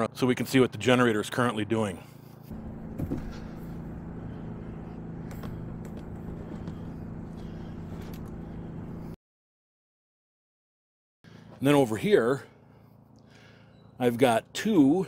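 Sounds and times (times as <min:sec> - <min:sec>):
generator engine humming: 0:00.0 - 0:09.2, 0:11.3 - 0:15.0.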